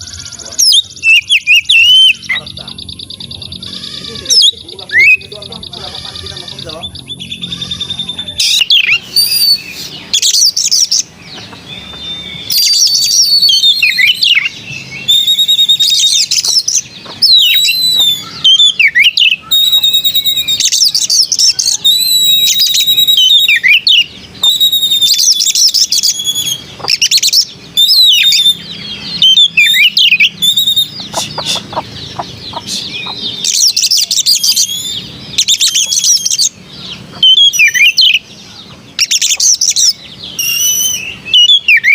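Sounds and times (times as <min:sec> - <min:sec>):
bird singing whistled phrases: 0:00.0 - 0:11.0, 0:11.8 - 0:31.8, 0:32.5 - 0:36.6, 0:37.2 - 0:38.3, 0:39.0 - 0:41.9.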